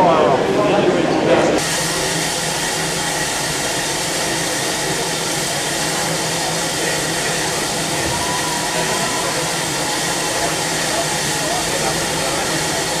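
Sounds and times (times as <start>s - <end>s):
steam hissing from locomotive: 1.6s - 13.0s.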